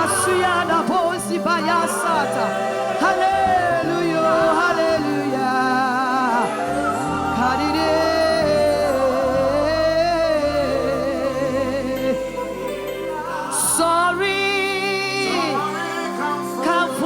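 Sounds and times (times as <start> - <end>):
bass and accompaniment: 0.0 - 17.0
gospel singing with vibrato: 0.0 - 17.0.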